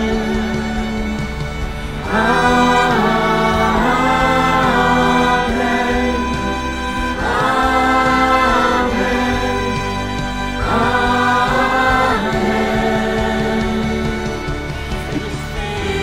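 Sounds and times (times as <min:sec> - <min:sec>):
choir singing: 0:00.0 - 0:16.0
low-pitched accompaniment: 0:00.0 - 0:16.0.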